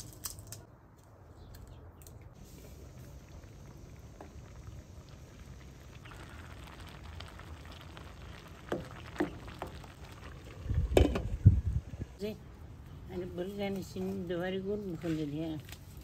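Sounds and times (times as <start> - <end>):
pot steaming with soft hiss: 2.4 - 16.0.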